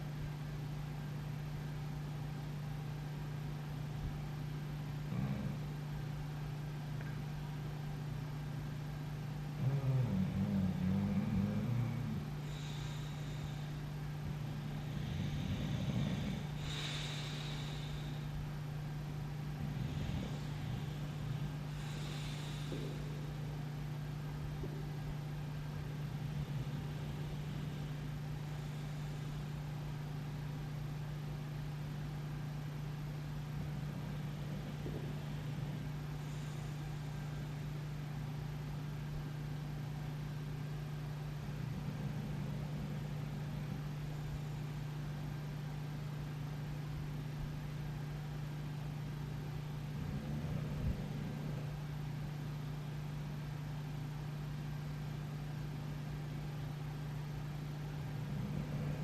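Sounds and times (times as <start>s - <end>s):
low household appliance hum: 0.0s - 59.0s.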